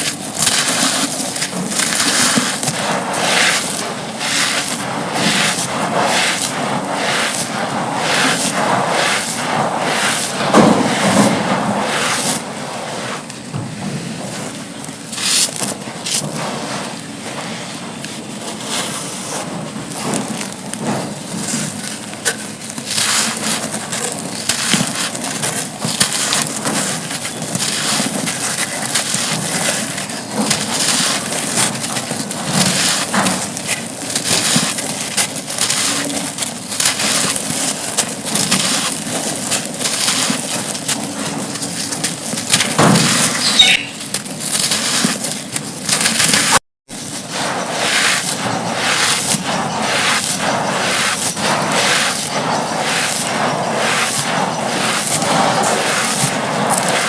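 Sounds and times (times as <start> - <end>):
gritty clumps crunching by hand: 0.0 - 57.0.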